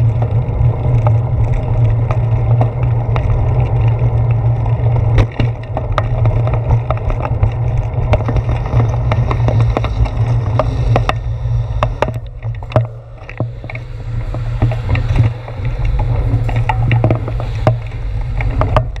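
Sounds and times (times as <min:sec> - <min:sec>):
wind rushing over camera: 0:00.0 - 0:19.0.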